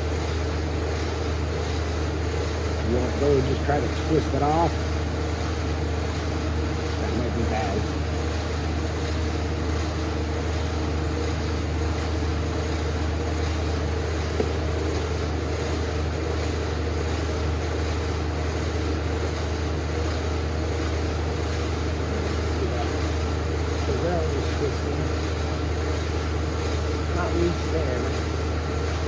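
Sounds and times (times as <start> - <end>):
shop machinery drone: 0.0 - 29.0.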